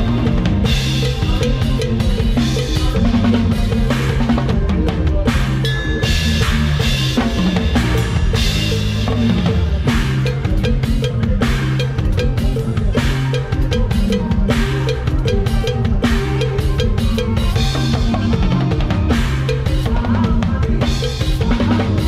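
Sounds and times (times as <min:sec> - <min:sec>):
band playing: 0:00.0 - 0:22.0
bass line: 0:00.0 - 0:22.0.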